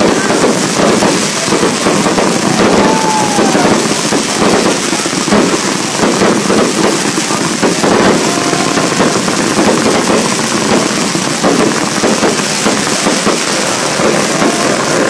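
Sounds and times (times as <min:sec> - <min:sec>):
falling firework whistle: 0:00.0 - 0:15.0
fireworks bangs and crackles: 0:00.0 - 0:15.0.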